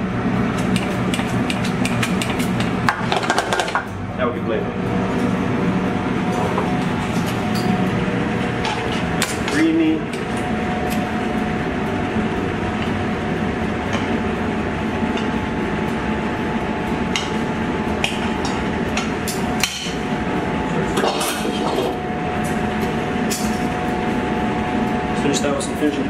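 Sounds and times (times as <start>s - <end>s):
kitchen ventilation hum: 0.0s - 26.0s.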